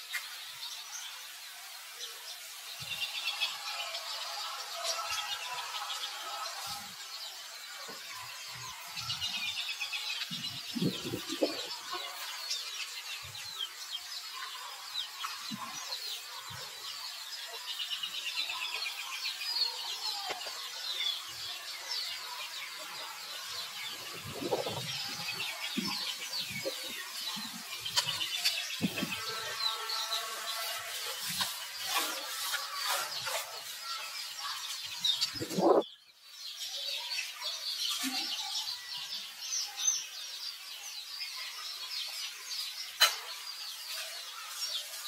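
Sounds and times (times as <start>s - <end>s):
birds chirping and twittering: 0.0s - 45.0s.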